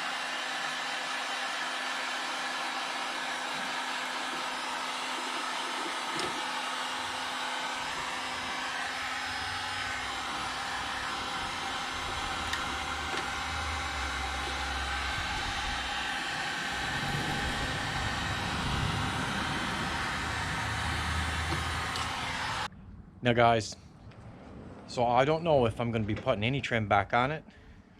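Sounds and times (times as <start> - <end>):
heat gun fan whir: 0.0 - 22.7.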